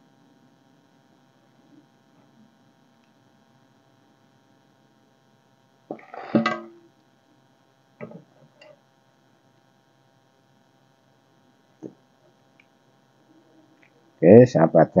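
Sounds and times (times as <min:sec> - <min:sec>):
mains hum: 0:00.0 - 0:15.0.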